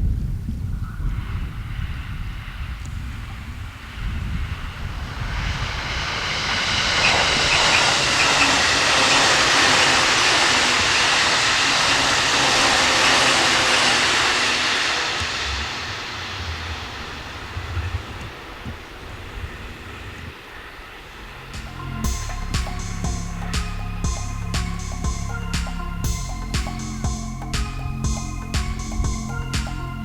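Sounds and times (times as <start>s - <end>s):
wind rumbling on microphone: 0.0s - 30.0s
electric train passing: 1.8s - 30.0s.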